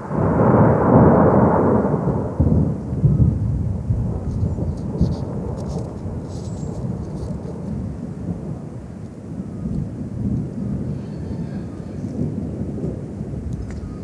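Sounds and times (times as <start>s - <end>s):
low rumble of storm: 0.0s - 14.0s
rain: 0.0s - 14.0s.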